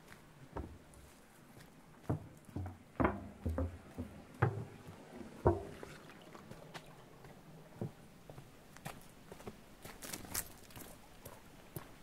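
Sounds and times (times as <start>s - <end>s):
footsteps on a trail: 0.0s - 12.0s.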